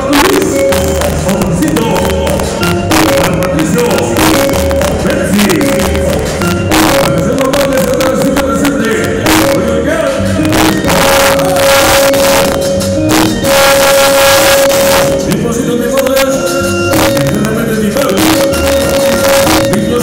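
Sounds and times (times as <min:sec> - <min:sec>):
loud dance music with singing: 0:00.0 - 0:20.0.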